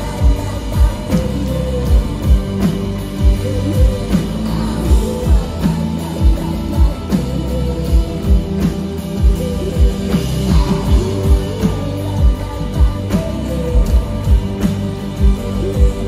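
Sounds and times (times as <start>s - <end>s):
live rock band: 0.0s - 16.0s
person singing: 0.0s - 16.0s.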